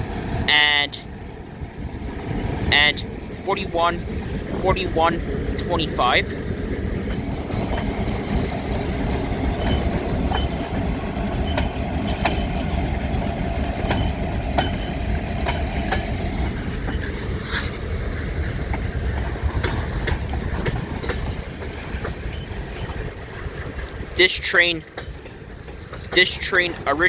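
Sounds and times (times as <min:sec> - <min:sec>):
freight train rumbling past: 0:00.0 - 0:27.0
wheels clicking over rail joints: 0:00.0 - 0:27.0.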